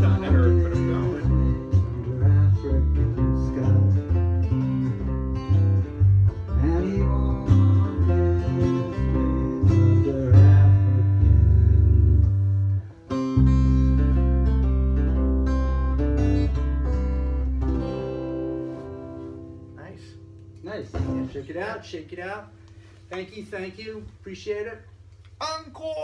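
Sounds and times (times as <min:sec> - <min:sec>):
electric bass line: 0:00.0 - 0:21.4
acoustic guitar picking: 0:00.0 - 0:23.1.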